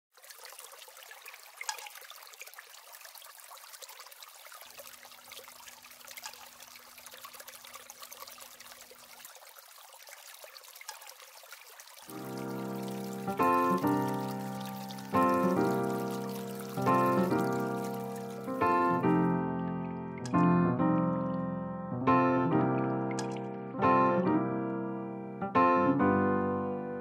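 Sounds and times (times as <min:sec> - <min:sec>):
water trickling over stone: 0:00.1 - 0:21.4, 0:23.0 - 0:23.6.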